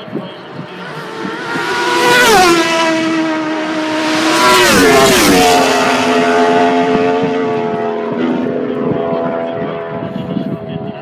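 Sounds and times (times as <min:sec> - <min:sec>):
motorcycle engines passing at speed: 0:00.0 - 0:11.0.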